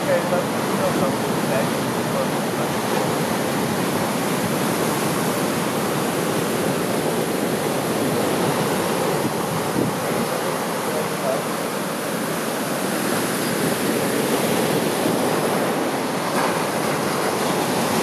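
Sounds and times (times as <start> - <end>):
surf breaking on a beach: 0.0 - 18.0.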